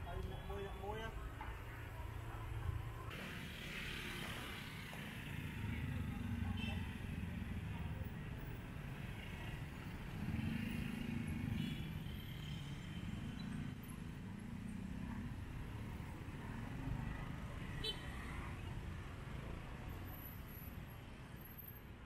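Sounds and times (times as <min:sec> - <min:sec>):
vehicle engines passing: 0:01.1 - 0:21.4.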